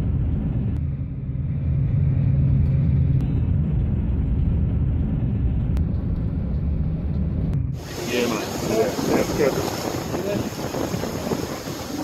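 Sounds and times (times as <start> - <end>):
car engine hum: 0.0 - 12.0
road noise rumble: 0.0 - 12.0.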